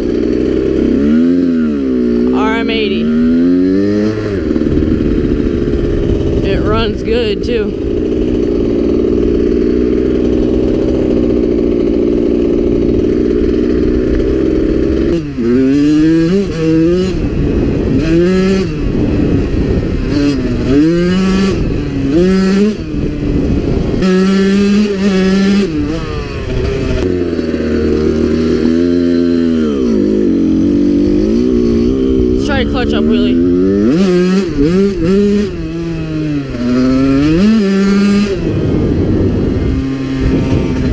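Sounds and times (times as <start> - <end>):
two-stroke motorcycle engine revving: 0.0 - 40.9.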